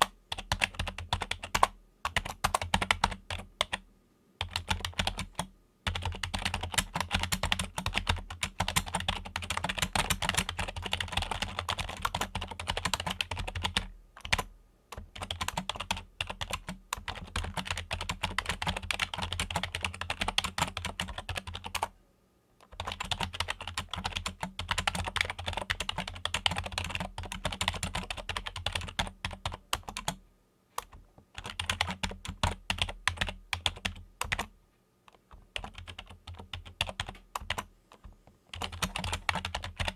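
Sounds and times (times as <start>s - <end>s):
fast typing on a keyboard: 0.0s - 3.8s, 4.4s - 21.9s, 22.6s - 30.2s, 30.8s - 34.5s, 35.2s - 39.9s.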